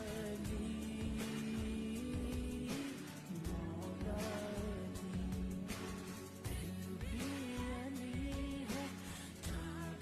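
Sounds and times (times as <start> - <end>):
pop song with sung melody and beat: 0.0 - 10.0.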